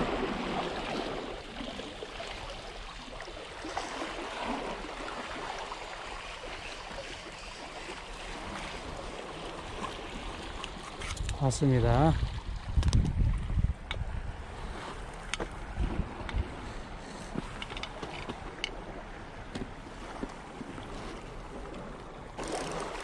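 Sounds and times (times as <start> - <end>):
waves washing at the shore: 0.0 - 23.0.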